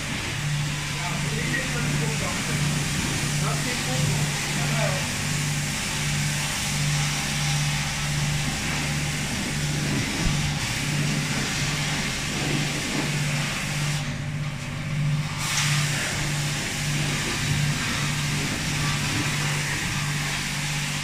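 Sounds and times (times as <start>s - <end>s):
pressure washer water hissing: 0.0s - 21.0s
pump humming: 0.0s - 21.0s.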